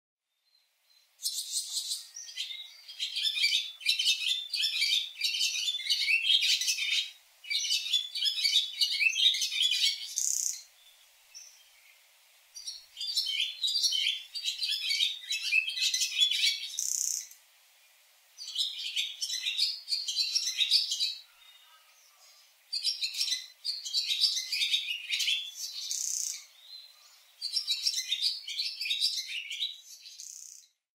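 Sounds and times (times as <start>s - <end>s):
swallow twittering song: 1.2s - 12.0s, 12.6s - 17.4s, 18.4s - 30.8s.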